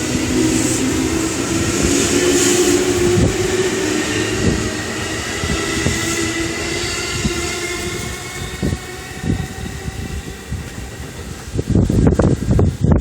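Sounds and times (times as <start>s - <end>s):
electric train motor whine: 0.0s - 12.9s.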